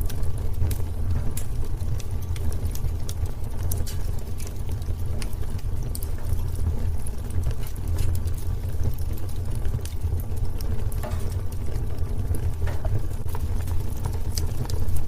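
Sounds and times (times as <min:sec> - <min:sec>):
logs crackling and popping: 0:00.0 - 0:15.0
wood fire rumbling: 0:00.0 - 0:15.0.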